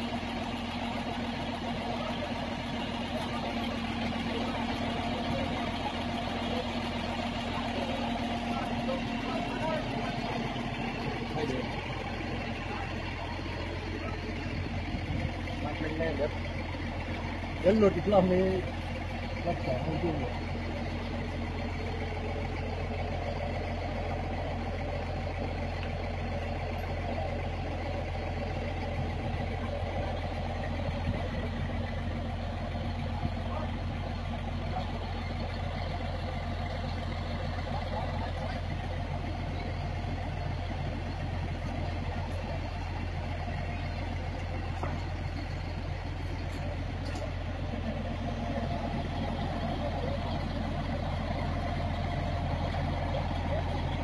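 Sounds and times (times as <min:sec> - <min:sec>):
crane truck engine droning: 0:00.0 - 0:54.0.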